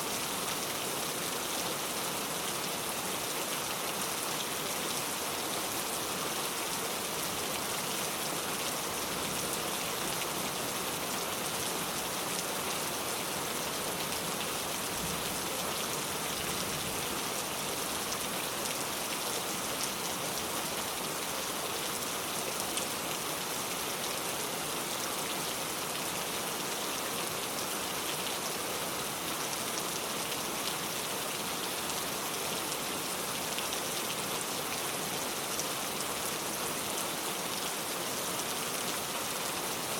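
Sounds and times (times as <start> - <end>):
rain falling on a car: 0.1 - 39.9.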